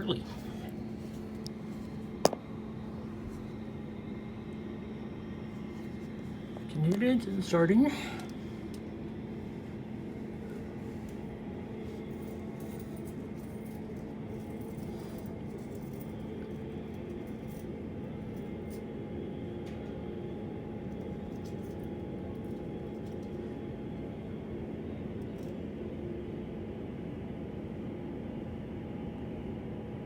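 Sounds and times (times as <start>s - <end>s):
faint jet engine hum: 0.0s - 30.0s
jet engine whine: 0.0s - 30.0s.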